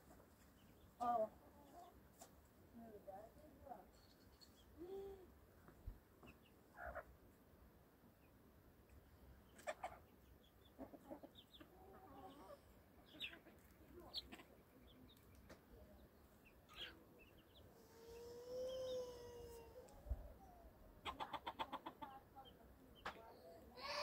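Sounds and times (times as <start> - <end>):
faint bird calls and clucks: 0.0 - 2.5, 3.1 - 24.0.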